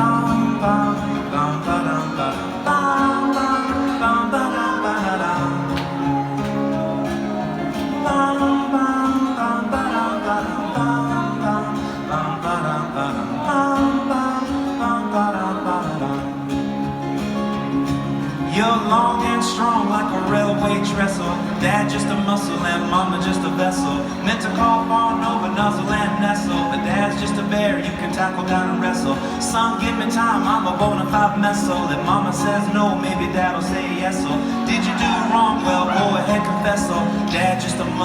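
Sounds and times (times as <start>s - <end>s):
acoustic guitar band music: 0.0s - 38.0s.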